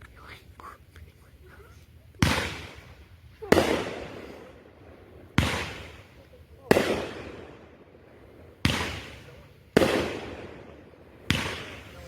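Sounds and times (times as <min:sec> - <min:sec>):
fireworks bangs with rumbling echo: 0:02.1 - 0:12.0.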